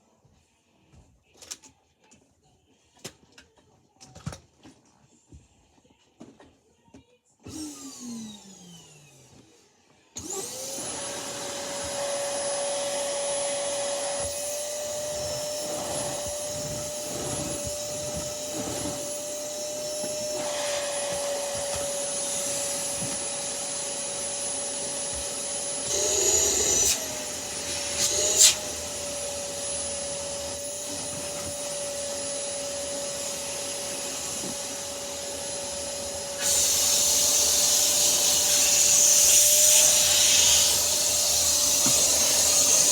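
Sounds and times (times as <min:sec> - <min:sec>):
vacuum cleaner motor whining: 0:07.5 - 0:09.5, 0:10.2 - 0:42.9.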